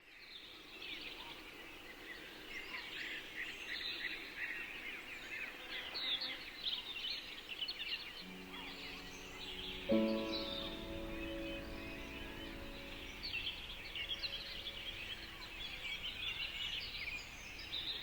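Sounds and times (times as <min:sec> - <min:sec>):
chorus of small birds chirping: 0:00.0 - 0:18.0.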